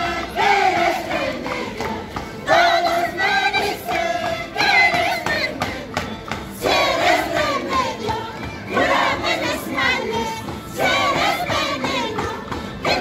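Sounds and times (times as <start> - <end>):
women singing in chorus: 0.0 - 13.0
hand drum beat: 0.7 - 13.0.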